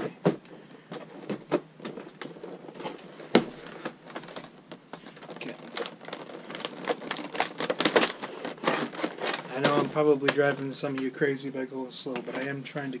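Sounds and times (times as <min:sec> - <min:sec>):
packaging crinkling and clicking: 0:00.2 - 0:11.2.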